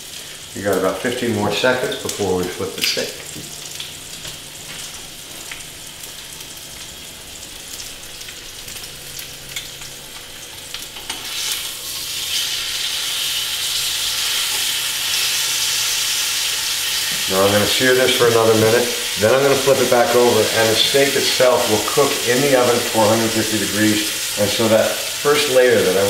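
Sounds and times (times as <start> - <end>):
steak sizzling in a frying pan: 0.0 - 26.0.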